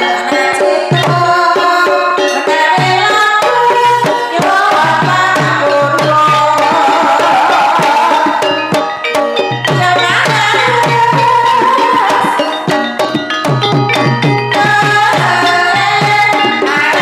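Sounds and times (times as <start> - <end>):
hand drums striking: 0.0 - 17.0
ringing metallophone notes: 0.0 - 17.0.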